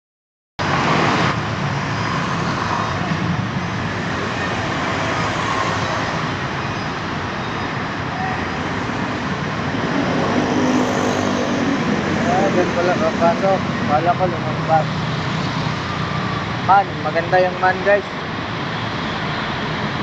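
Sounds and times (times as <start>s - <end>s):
road and traffic noise: 0.6s - 20.0s.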